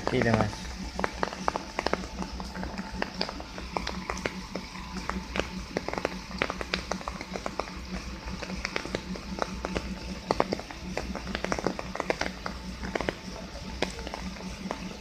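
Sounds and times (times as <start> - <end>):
diesel truck engine running: 0.0 - 15.0
sharp clicks and knocks: 0.0 - 15.0.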